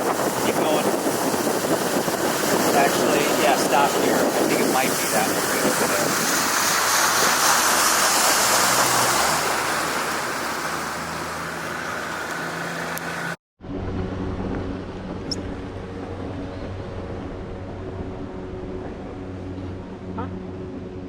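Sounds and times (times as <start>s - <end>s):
outboard motor running: 0.0s - 21.0s
water noise: 0.0s - 21.0s
wind noise: 0.0s - 21.0s.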